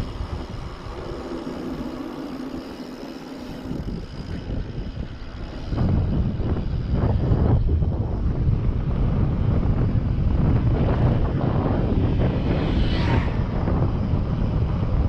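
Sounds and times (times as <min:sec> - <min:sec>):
bike tyres on asphalt: 0:00.0 - 0:15.0
wind on microphone: 0:00.0 - 0:15.0.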